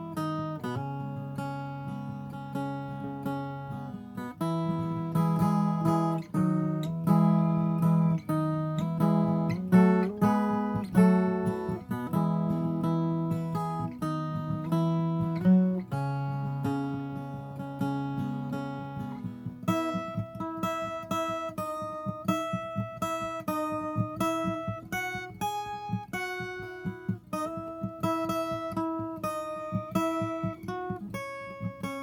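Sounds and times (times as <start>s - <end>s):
solo guitar melody: 0.0s - 32.0s.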